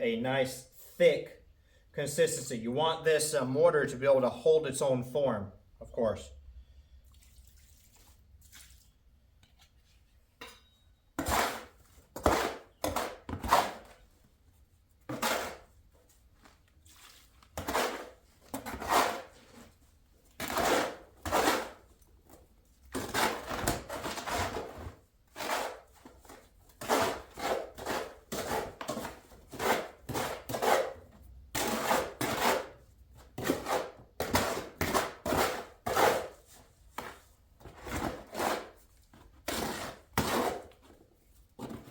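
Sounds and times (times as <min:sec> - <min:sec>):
mortar scraping and stirring: 0:07.1 - 0:10.4, 0:11.2 - 0:41.9.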